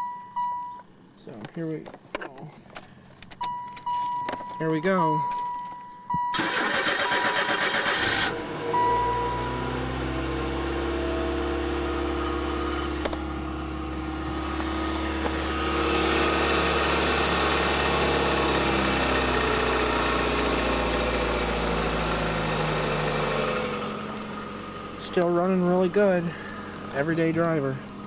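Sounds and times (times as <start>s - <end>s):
car engine starting and idling: 2.7s - 28.0s.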